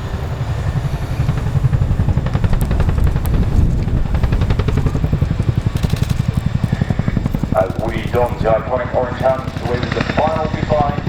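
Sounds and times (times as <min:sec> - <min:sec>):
helicopter rotor blade slap: 0:00.0 - 0:11.0.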